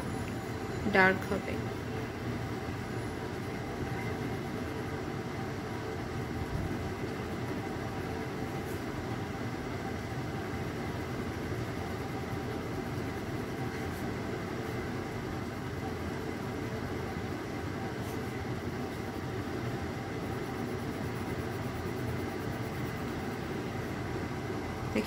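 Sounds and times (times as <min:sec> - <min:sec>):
low background hum and rumble: 0:00.0 - 0:25.0.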